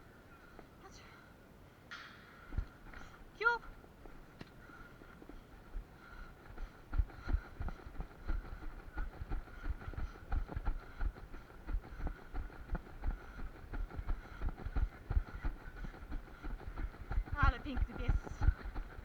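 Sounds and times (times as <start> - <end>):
running footsteps thudding: 2.5 - 19.0.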